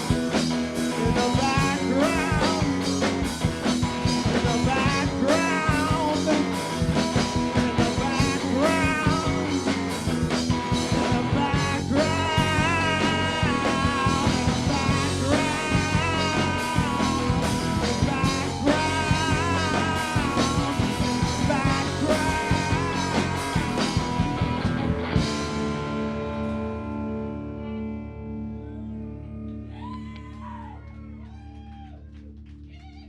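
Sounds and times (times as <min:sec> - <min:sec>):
drums: 0:00.0 - 0:28.0
rock band playing: 0:00.0 - 0:29.6.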